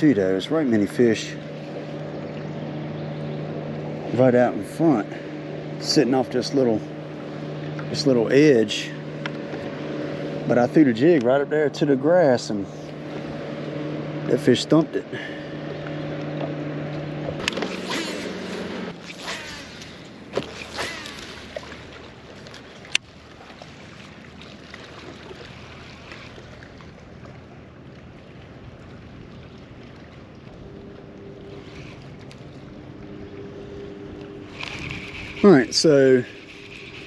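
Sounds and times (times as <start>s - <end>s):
boat motor hum: 0.0s - 37.0s
wind and water noise: 0.0s - 37.0s.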